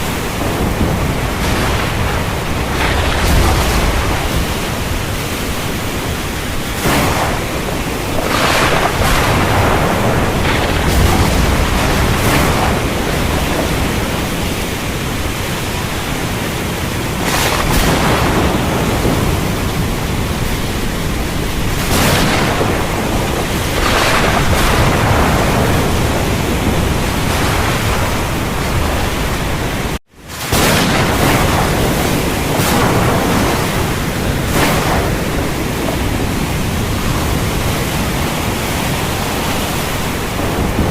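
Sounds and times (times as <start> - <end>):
thunder cracks: 0.0 - 40.9.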